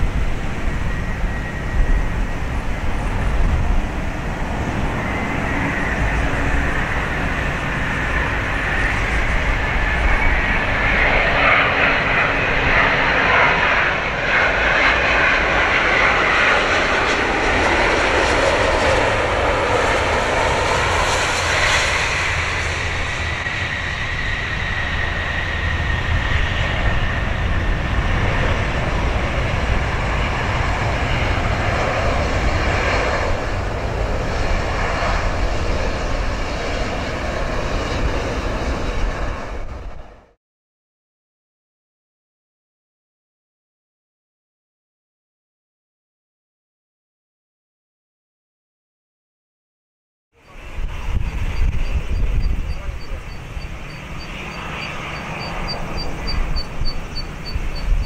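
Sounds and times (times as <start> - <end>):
jet engine rush with fan whine: 0.0 - 40.4, 50.4 - 58.0.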